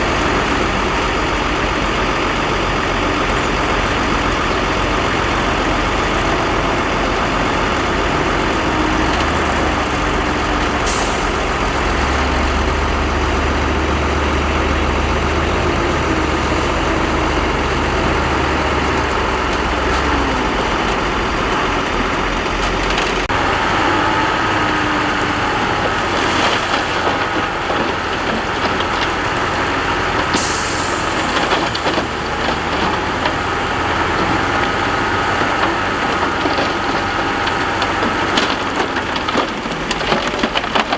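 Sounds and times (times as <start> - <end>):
heavy machinery engines: 0.0 - 40.9.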